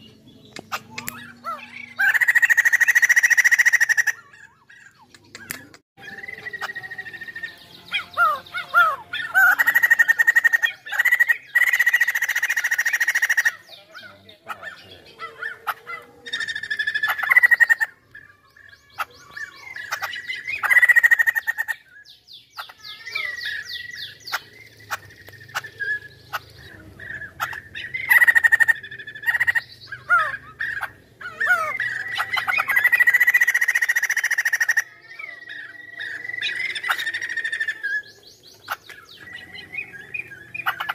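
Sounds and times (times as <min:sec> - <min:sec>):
bird harsh chattering song: 0:00.0 - 0:40.9.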